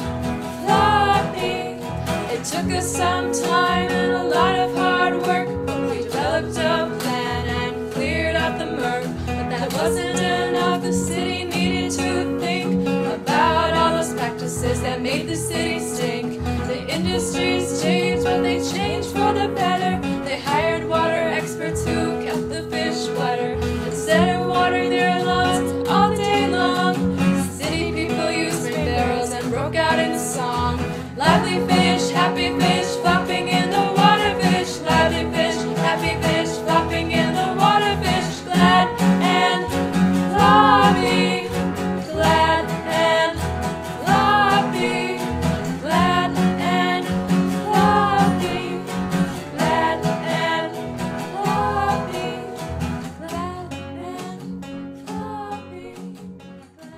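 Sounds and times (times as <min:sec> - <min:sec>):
person singing: 0:00.0 - 0:56.2
country music: 0:00.0 - 0:56.9
guitar: 0:00.0 - 0:56.9.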